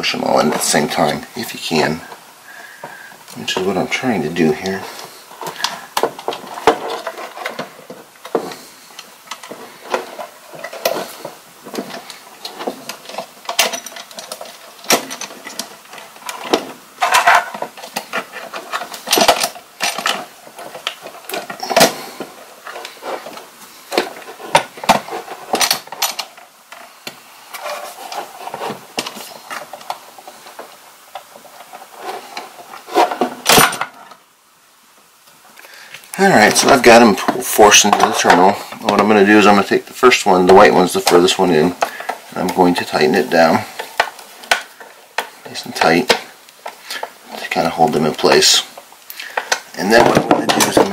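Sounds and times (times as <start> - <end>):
wires clicking and scraping: 0.0 - 34.3, 35.2 - 50.9.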